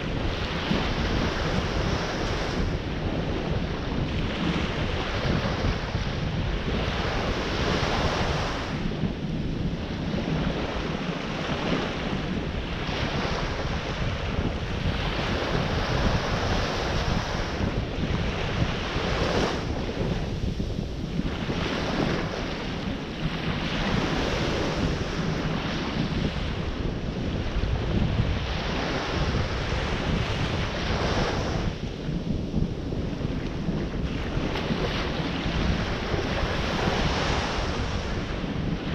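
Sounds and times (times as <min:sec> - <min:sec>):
ocean surf washing ashore: 0:00.0 - 0:38.9
wind buffeting microphone: 0:00.0 - 0:38.9.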